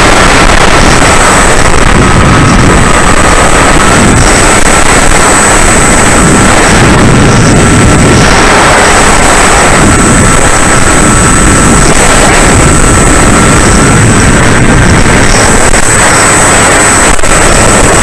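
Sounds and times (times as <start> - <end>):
model plane motor and propeller: 0.0 - 18.0
thin high whine: 0.0 - 18.0
wind rushing: 0.0 - 18.0.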